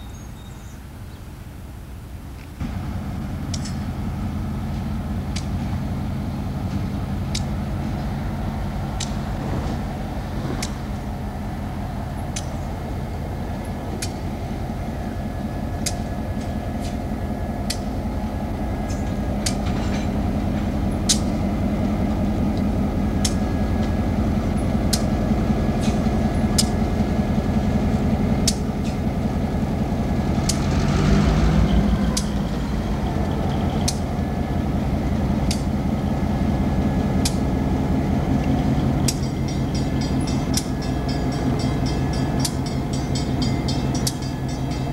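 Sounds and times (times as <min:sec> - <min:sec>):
diesel locomotive hauling train: 0:00.0 - 0:44.9.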